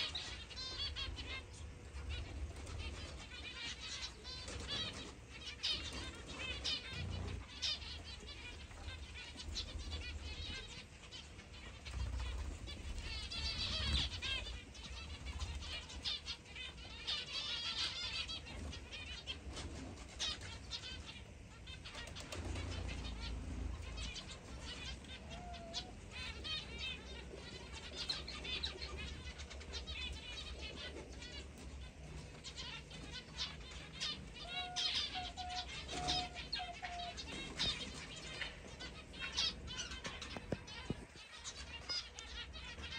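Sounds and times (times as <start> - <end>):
finches chirping: 0.0 - 42.9
wing flutters: 0.0 - 42.9.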